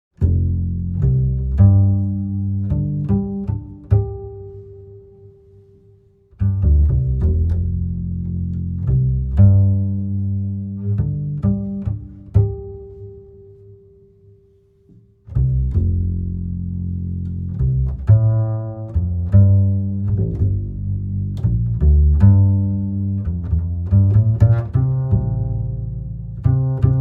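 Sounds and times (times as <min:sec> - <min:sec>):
low deep music notes: 0:00.2 - 0:13.9, 0:15.2 - 0:27.0.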